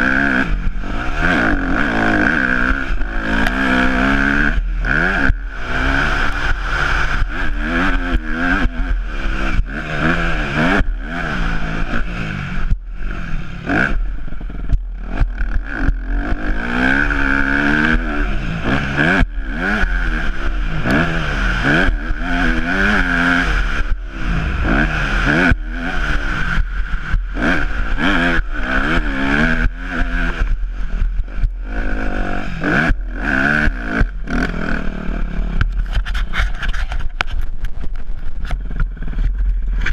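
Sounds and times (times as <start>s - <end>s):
motocross engine revving: 0.0s - 37.0s.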